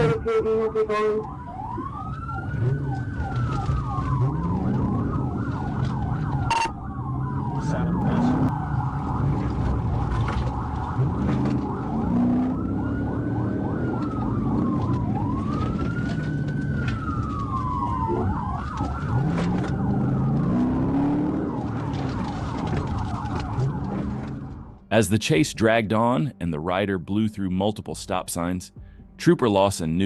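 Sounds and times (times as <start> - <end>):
car engine: 0.0 - 24.9
police siren wailing: 0.0 - 24.9
road noise: 0.0 - 25.2.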